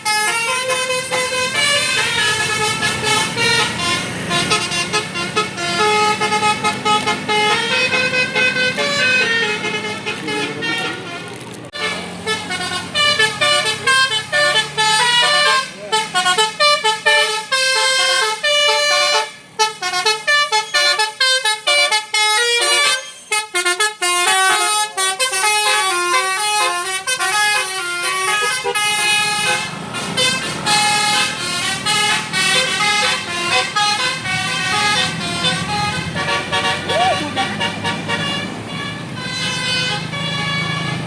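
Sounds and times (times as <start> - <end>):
multi-tone musical bus horn: 0.0 - 41.0.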